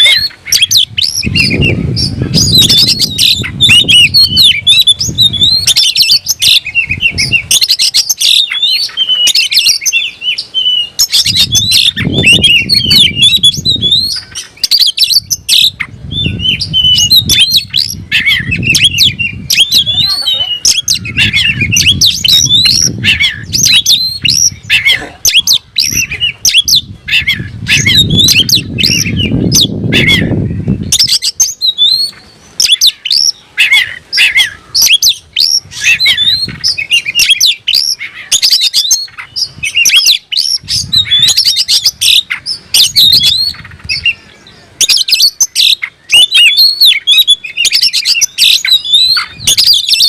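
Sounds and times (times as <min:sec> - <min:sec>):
bird singing whistles and trills: 0:00.0 - 0:50.0.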